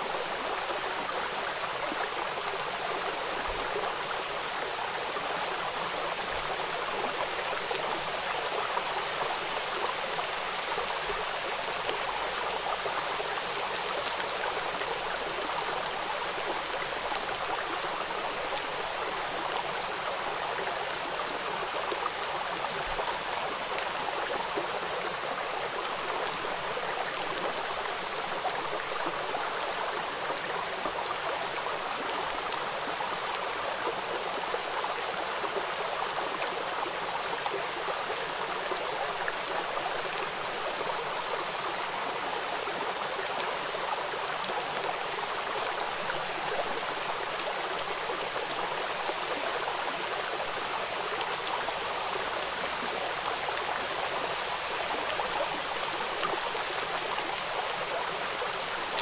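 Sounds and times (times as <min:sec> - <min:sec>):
rain splashing on hard surface: 0:00.1 - 0:59.0.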